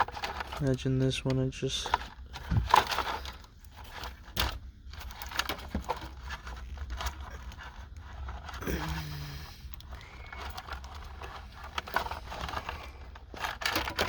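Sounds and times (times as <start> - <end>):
wires and connector rustling: 0.0 - 14.0.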